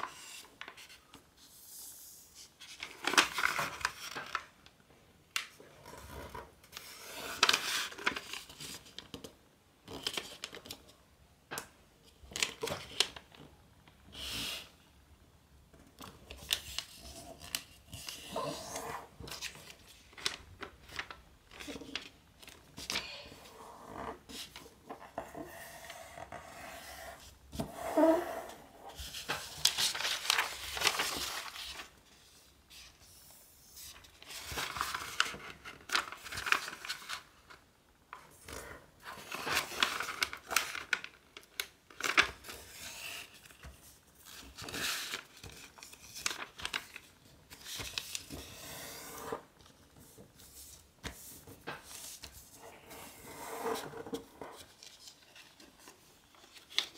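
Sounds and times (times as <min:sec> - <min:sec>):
paper rustling and crinkling: 0:00.0 - 0:04.5, 0:05.4 - 0:10.9, 0:16.0 - 0:23.5, 0:28.9 - 0:56.9.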